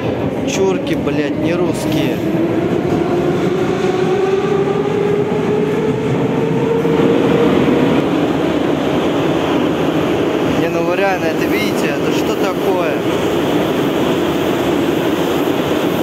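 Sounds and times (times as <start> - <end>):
metro train rumble and whine: 0.0 - 16.0.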